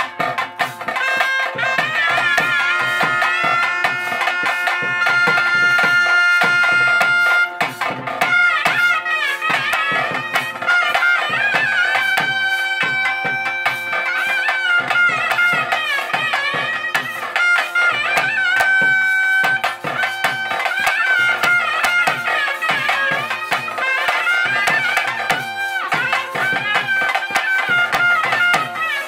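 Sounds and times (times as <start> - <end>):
fast steady drumming: 0.0 - 29.0
shrill reed pipe melody: 0.0 - 29.0.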